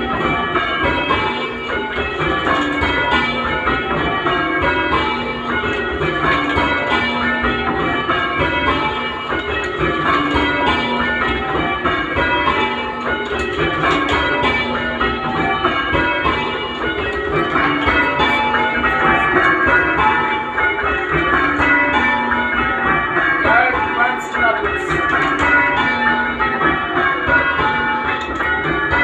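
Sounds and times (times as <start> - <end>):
church bells change ringing: 0.0 - 29.0.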